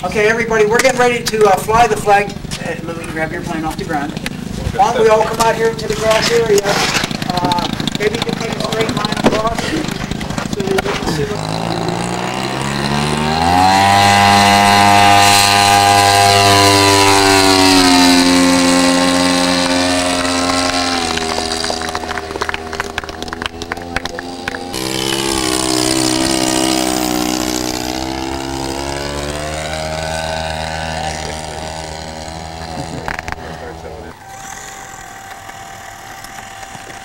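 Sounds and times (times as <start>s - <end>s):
model airplane motor buzzing: 0.3s - 37.0s.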